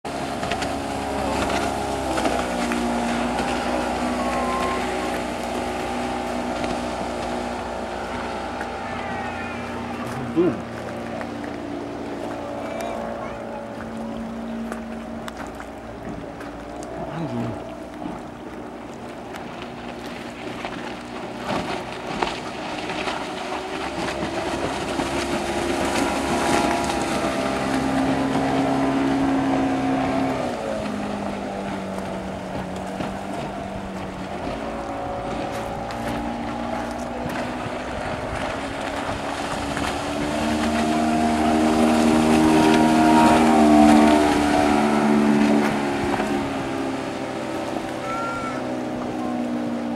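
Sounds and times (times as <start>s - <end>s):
outboard motorboat passing: 0.0s - 49.9s.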